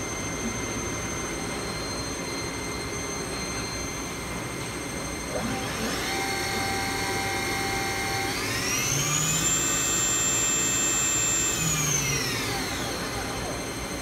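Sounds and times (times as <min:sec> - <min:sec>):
mill spindle whine: 0:00.0 - 0:14.0.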